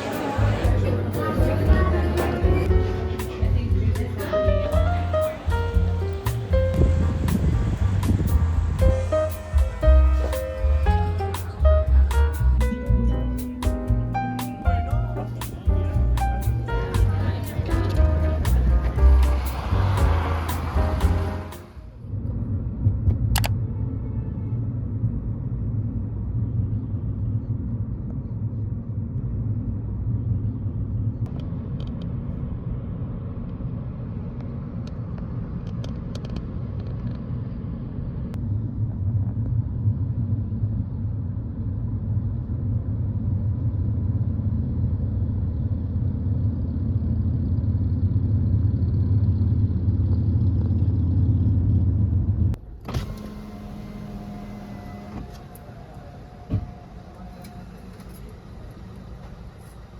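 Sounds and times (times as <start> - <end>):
road vehicle rumble: 0.0 - 59.9.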